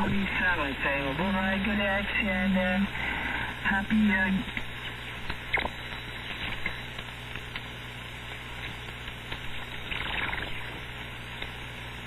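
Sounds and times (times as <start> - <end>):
garbled distant radio signal: 0.0 - 12.0
low steady hum: 0.0 - 12.0
radio receiver hiss: 0.0 - 12.0.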